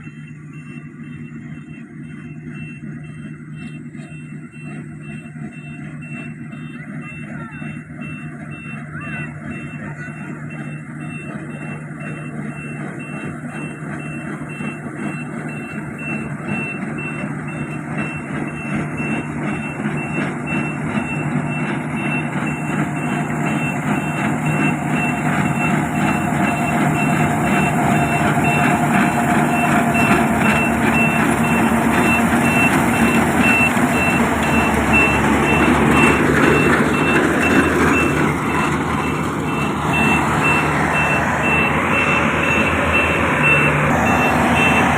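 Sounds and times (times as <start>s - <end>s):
combine harvester engine: 0.0s - 44.9s
warning beeper: 0.0s - 44.9s.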